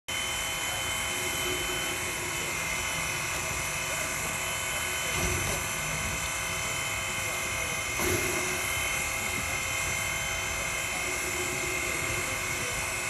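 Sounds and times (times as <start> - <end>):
thin high whine: 0.1 - 13.0
steam hissing: 0.5 - 13.0.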